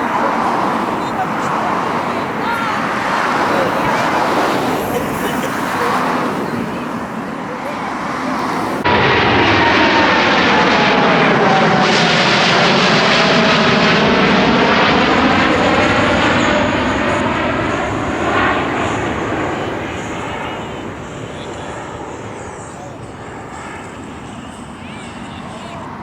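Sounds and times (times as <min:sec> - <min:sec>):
jet airliner passing overhead: 0:00.0 - 0:26.0.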